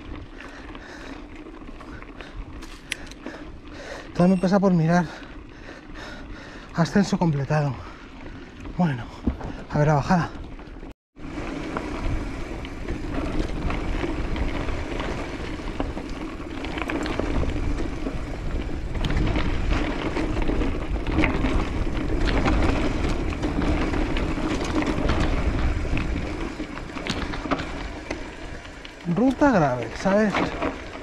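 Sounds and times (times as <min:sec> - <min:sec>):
bike rattling and knocking: 0:00.0 - 0:31.0
wind rumble on microphone: 0:05.6 - 0:31.0.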